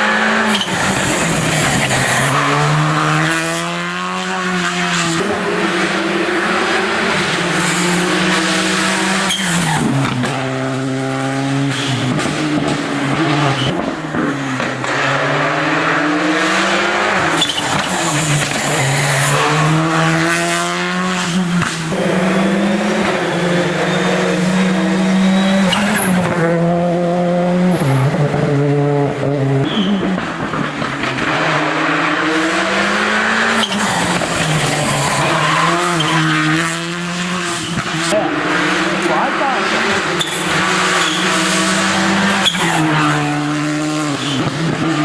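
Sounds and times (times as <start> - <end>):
rally car engine accelerating: 0.0 - 45.0.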